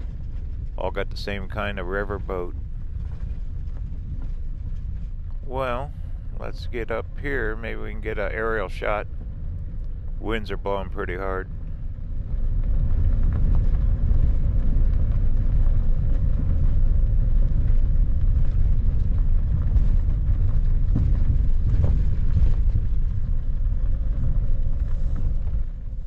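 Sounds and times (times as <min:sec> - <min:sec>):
tyres rumbling on gravel: 0:00.0 - 0:26.0.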